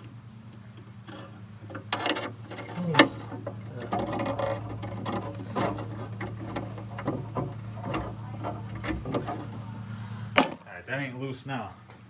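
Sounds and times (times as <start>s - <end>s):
hand tools clicking and scraping: 0.0s - 10.7s
steady low hum: 0.0s - 12.0s.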